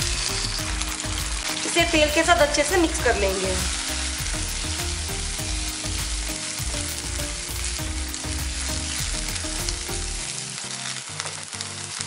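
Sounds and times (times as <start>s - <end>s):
background music: 0.0s - 12.0s
beans sizzling in hot oil: 0.0s - 12.0s.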